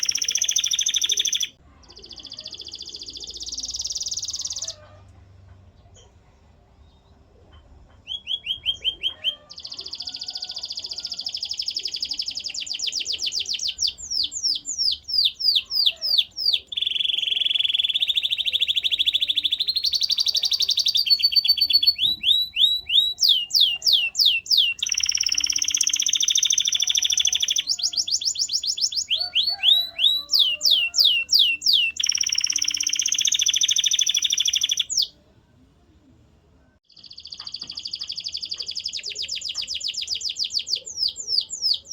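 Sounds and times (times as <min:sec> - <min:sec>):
canary singing trills: 0:00.0 - 0:05.0, 0:08.0 - 0:35.2, 0:36.9 - 0:41.9.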